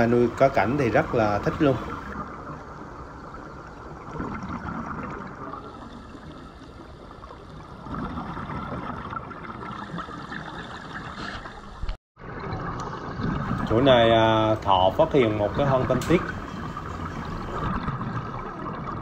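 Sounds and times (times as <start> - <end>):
underwater rushing and gurgling: 0.0 - 19.0.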